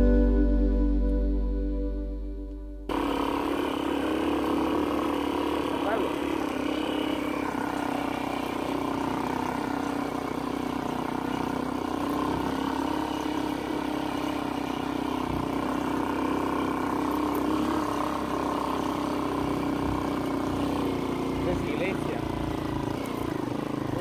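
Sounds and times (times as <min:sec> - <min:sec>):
small engine running steadily: 0:02.9 - 0:24.0.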